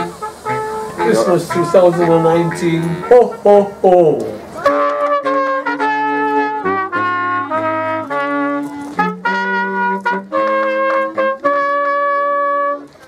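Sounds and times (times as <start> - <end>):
wind trio playing slow tune: 0.0 - 13.0.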